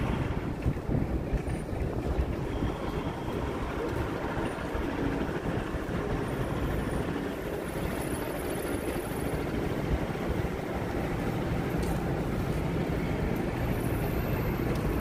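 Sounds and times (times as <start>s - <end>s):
city background rumble: 0.0s - 15.0s.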